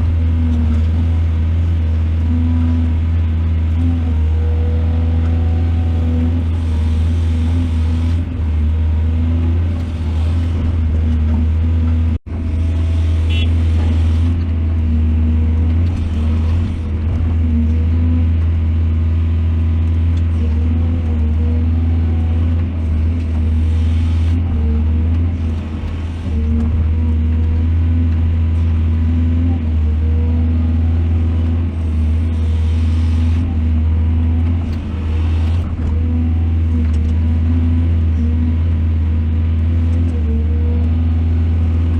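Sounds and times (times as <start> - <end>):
excavator engine droning: 0.0 - 41.9.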